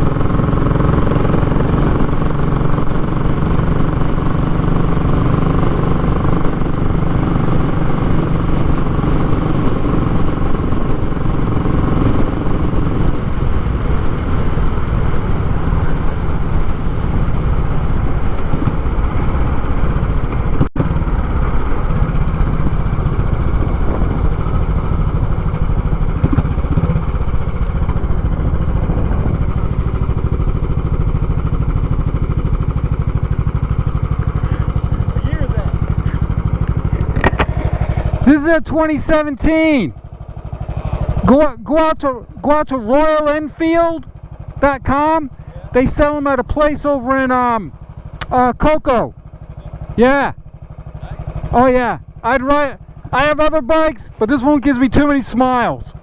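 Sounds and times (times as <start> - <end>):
single-cylinder engine thumping: 0.0 - 56.0.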